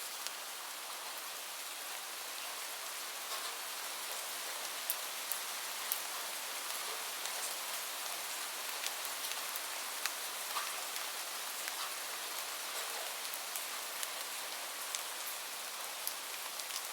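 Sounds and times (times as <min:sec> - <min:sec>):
steady rain hiss: 0:00.0 - 0:16.9.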